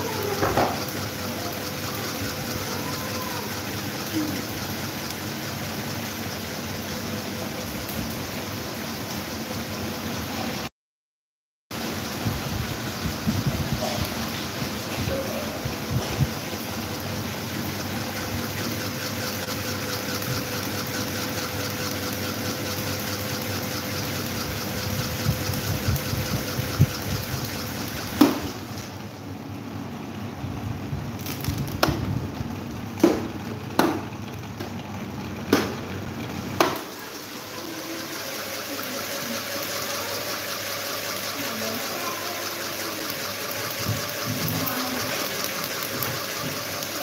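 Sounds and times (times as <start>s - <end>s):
electric fans blowing air: 0.0s - 10.7s, 11.8s - 47.0s
faint motor hum: 0.0s - 10.7s, 11.8s - 47.0s.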